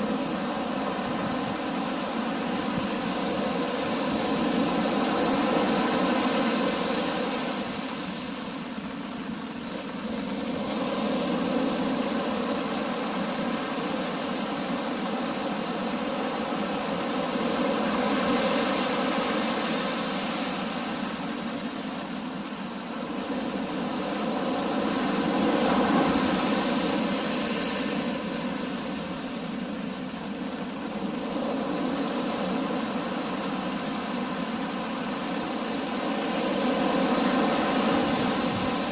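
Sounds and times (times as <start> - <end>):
faint steady hum: 0.0 - 38.9
waves breaking: 0.0 - 38.9
wind: 0.0 - 38.9.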